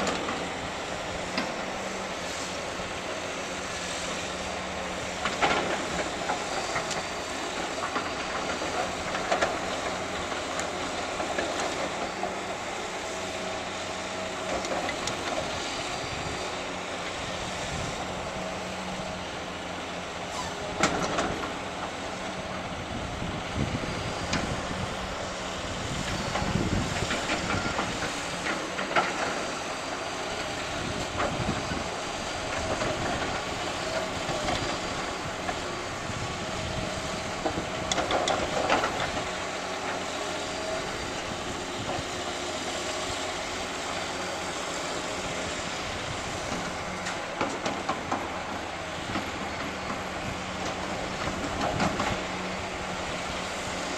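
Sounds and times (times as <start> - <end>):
heavy machinery running: 0.0 - 53.9.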